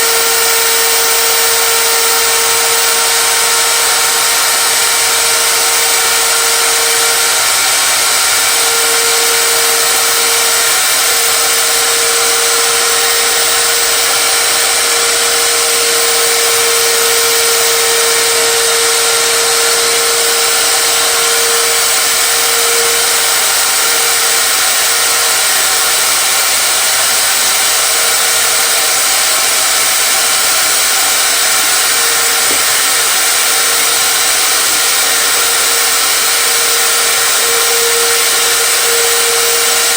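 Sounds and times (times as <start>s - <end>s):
power tool motor whirring: 0.0s - 39.9s.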